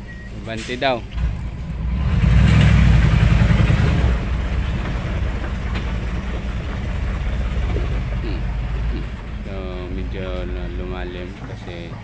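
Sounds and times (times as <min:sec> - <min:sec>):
diesel truck engine working hard: 0:00.0 - 0:12.0.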